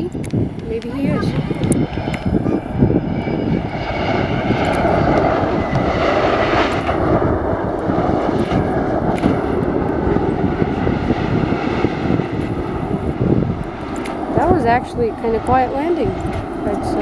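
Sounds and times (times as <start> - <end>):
jet airliner rumble on runway: 0.0 - 17.0.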